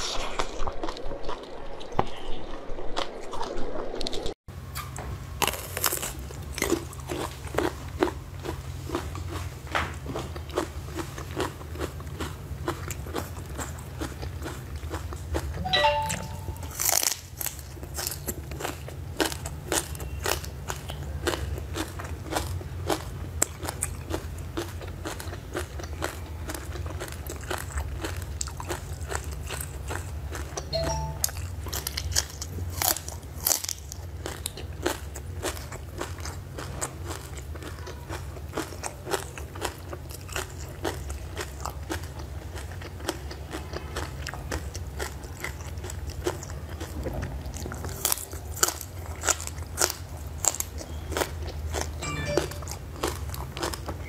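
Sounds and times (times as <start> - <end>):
person crunching and chewing: 5.4 - 15.6, 16.6 - 54.0.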